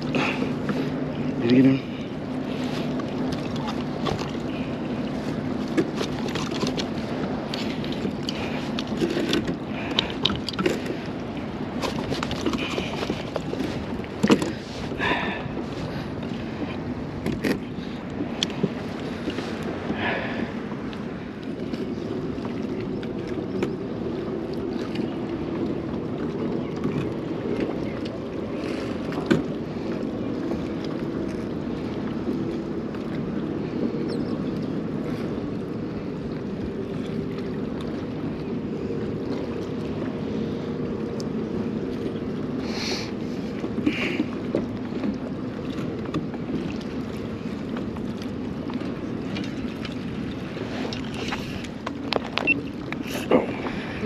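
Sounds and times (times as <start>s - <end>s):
water moving around kayak: 0.0s - 54.0s.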